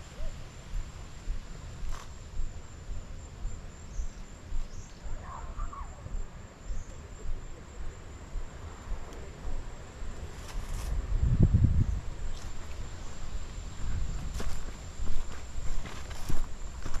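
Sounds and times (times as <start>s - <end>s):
crickets chirping: 0.0s - 17.0s
footsteps on a trail: 0.0s - 17.0s.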